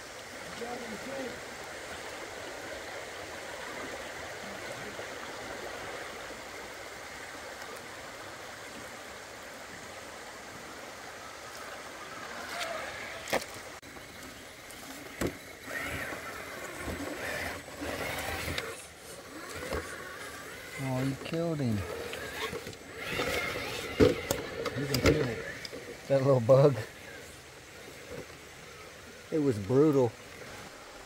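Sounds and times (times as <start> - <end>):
creek water running over rocks: 0.0 - 31.0.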